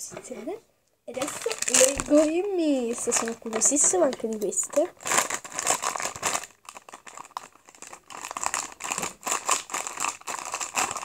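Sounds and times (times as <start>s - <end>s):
plastic packet crinkling: 1.1s - 11.0s.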